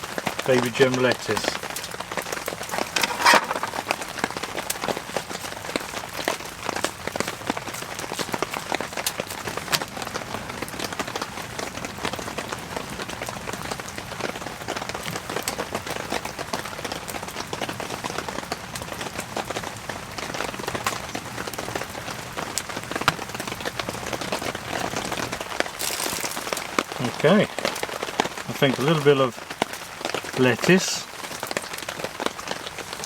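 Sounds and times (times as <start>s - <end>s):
heavy rain on tent fabric: 0.0s - 33.0s.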